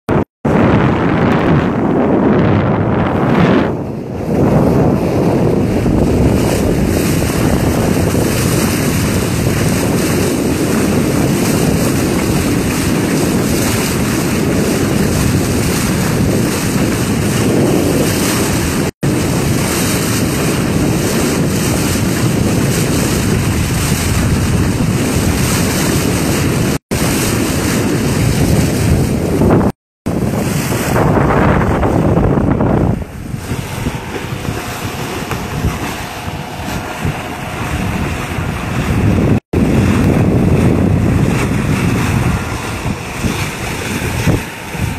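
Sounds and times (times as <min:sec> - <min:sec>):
water rushing past a bow: 0:00.1 - 0:44.9
wind buffeting the microphone: 0:00.1 - 0:44.9.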